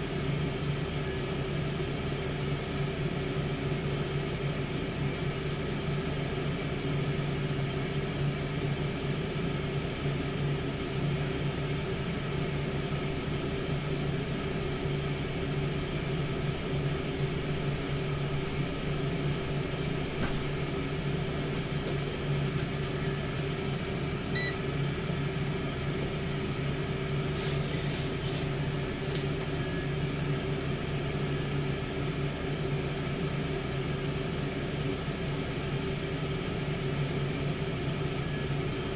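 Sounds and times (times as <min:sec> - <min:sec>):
air fryer fan hum: 0:00.0 - 0:38.9.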